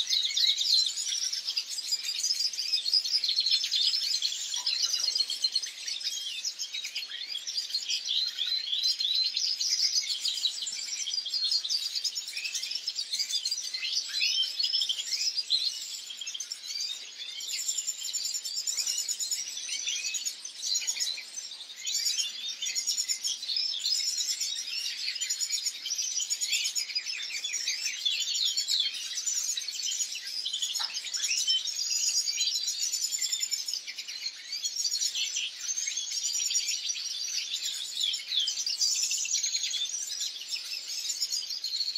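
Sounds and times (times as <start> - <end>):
finch twittering song: 0.0 - 41.9.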